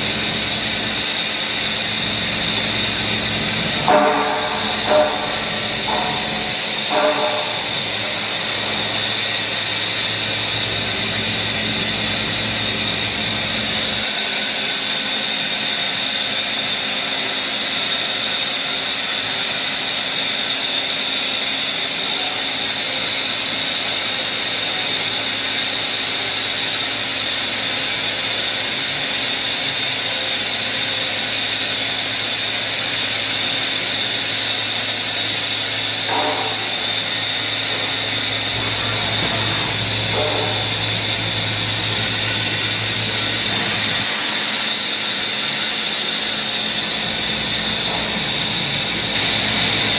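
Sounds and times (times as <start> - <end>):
machine whine: 0.0 - 49.9.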